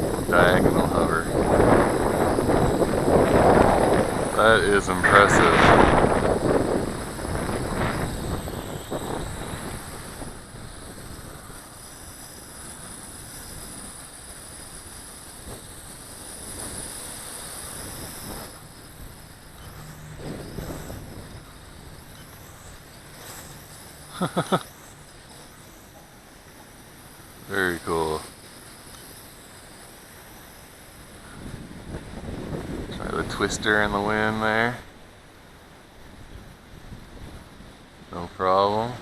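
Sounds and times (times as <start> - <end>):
faint high-pitched hiss: 0.0 - 39.0
gusty wind buffeting microphone: 0.0 - 39.0.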